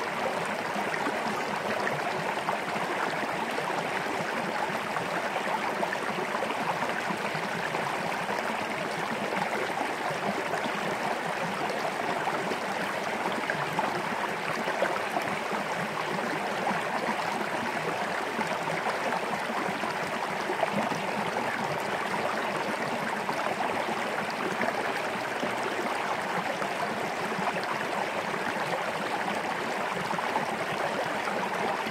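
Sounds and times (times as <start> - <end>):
creek water burbling: 0.0 - 31.9.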